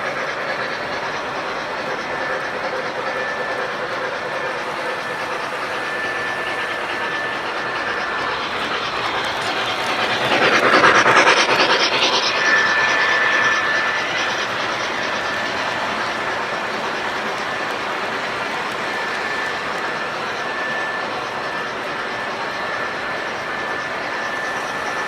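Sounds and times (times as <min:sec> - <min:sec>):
model train rolling clatter: 0:00.0 - 0:25.0
thin high whine: 0:00.0 - 0:25.0.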